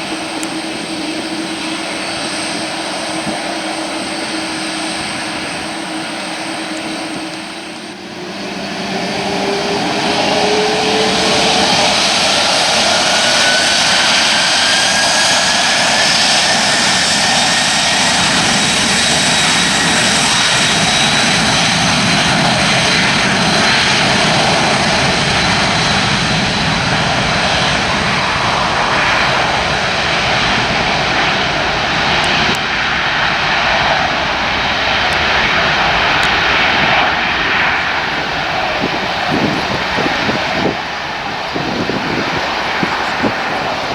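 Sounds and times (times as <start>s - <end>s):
jet engines running: 0.0s - 43.9s
rising engine whine: 0.0s - 43.9s.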